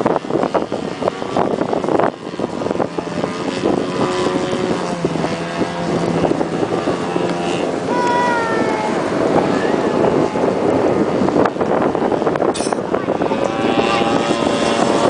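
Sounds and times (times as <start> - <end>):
model airplane engine: 0.0 - 15.0
wind buffeting microphone: 0.0 - 15.0.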